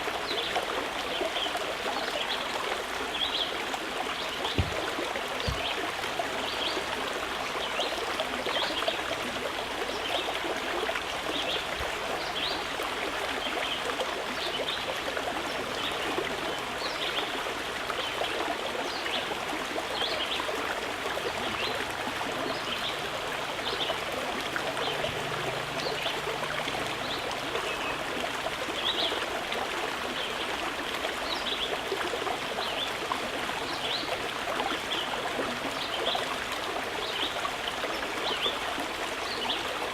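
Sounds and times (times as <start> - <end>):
running water: 0.0 - 39.9
water trickling and bubbling: 0.0 - 39.9.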